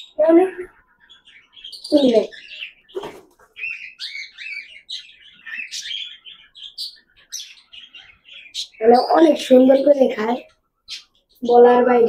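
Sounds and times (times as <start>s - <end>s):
parrots chirping: 0.0s - 12.0s.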